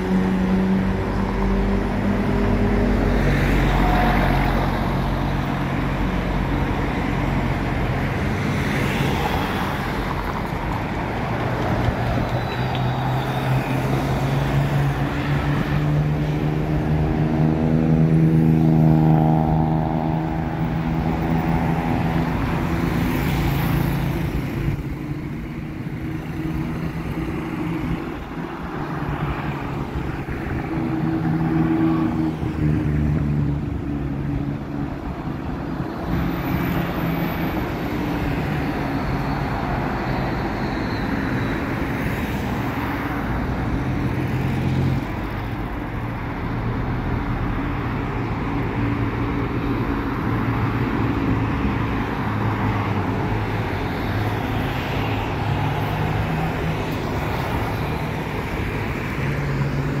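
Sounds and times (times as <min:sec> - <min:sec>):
road noise: 0:00.0 - 1:00.0.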